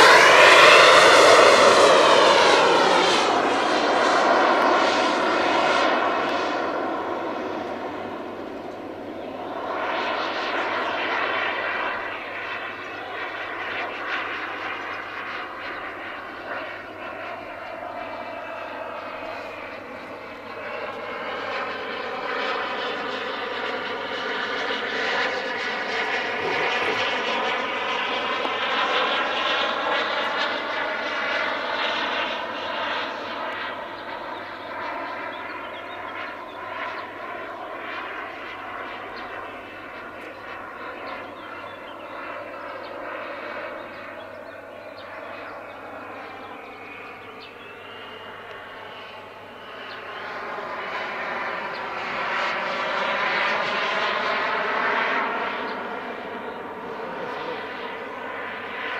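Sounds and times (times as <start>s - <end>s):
model jet turbine whine: 0.0s - 58.9s.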